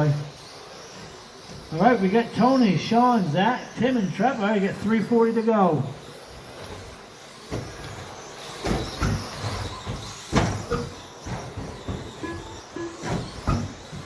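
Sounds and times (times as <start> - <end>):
whir of rc car motors: 0.0 - 14.0.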